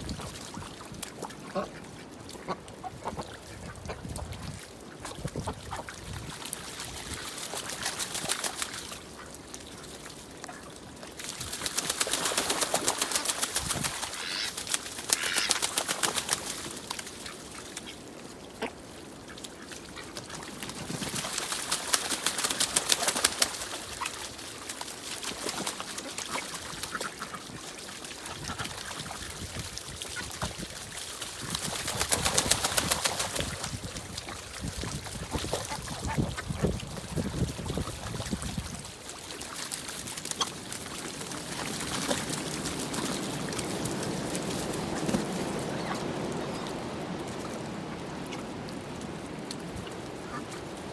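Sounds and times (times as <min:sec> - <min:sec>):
ducks flapping and splashing: 0:00.0 - 0:50.9.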